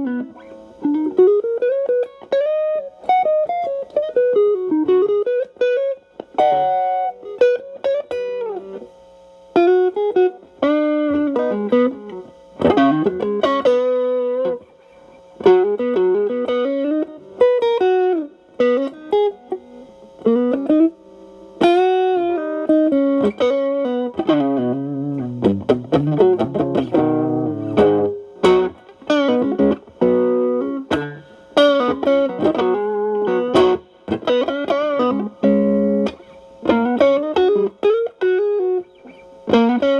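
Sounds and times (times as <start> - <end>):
overdriven electric guitar blues lead: 0.0 - 39.9.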